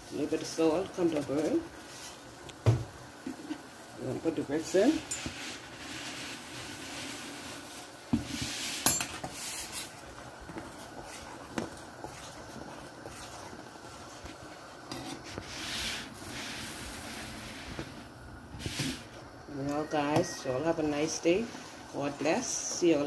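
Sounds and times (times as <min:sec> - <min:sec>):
boiling pot hissing: 0:00.0 - 0:23.0.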